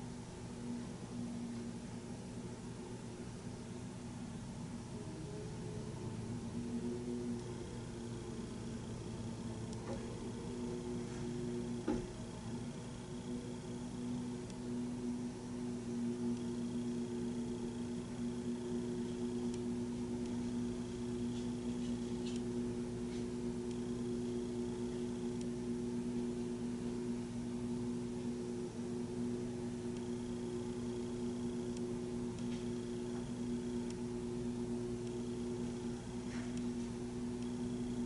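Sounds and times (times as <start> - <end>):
thin high whines: 0.0 - 38.0.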